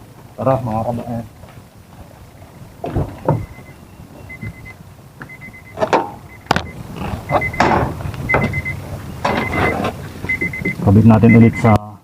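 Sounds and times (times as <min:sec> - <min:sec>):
rustling and clunks in a car: 0:00.9 - 0:10.8.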